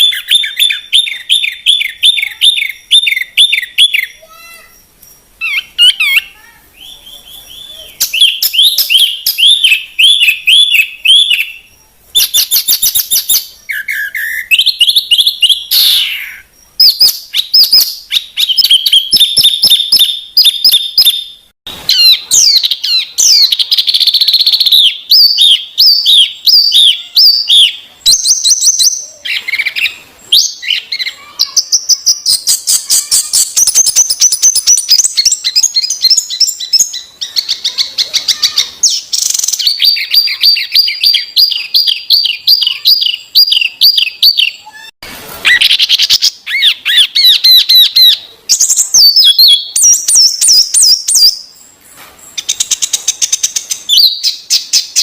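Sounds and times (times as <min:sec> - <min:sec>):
bird singing chirps and trills: 0:00.0 - 0:44.9, 0:45.5 - 0:55.0.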